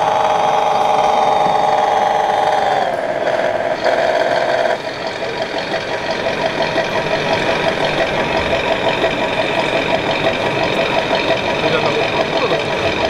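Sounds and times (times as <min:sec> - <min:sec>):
electronic engine idling sound: 0:00.0 - 0:13.0.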